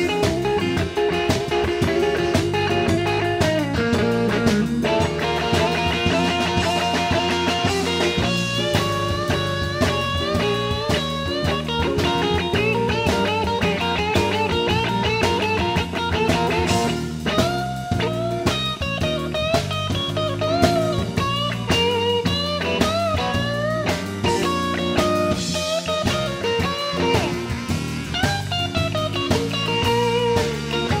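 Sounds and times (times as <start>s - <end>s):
blues guitar lead: 0.0s - 31.0s
drum kit beat: 0.0s - 31.0s.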